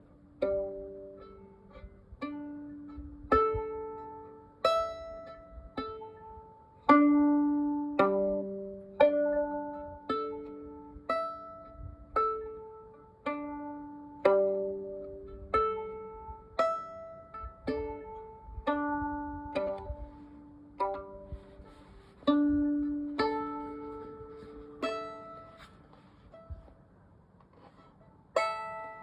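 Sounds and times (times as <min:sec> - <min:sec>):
plucked chords: 0:00.0 - 0:29.0.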